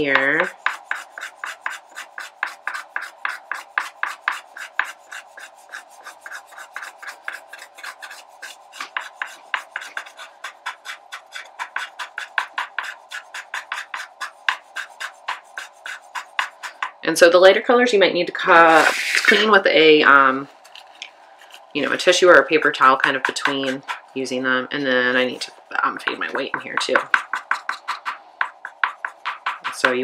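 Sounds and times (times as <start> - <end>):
pastel scratching on paper: 0.0 - 17.0, 20.5 - 24.3, 25.1 - 30.0.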